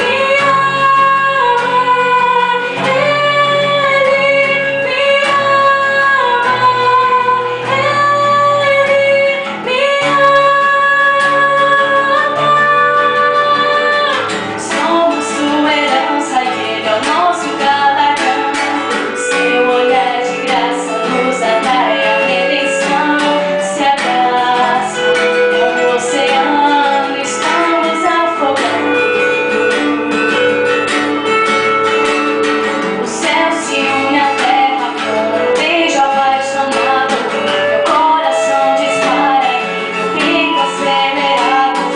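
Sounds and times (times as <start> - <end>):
acoustic guitar: 0.0 - 41.9
woman singing: 0.0 - 41.9.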